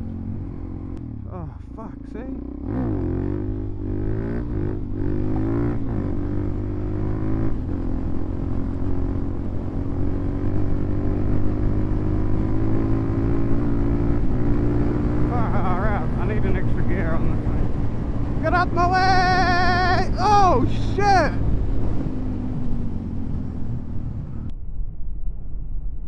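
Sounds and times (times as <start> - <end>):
motorcycle engine accelerating: 0.0 - 24.5.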